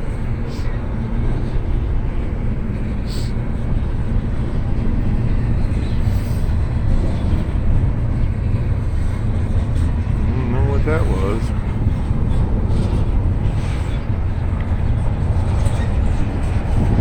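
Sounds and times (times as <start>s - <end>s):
freight train cars rolling: 0.0s - 17.0s
wind buffeting microphone: 0.0s - 17.0s.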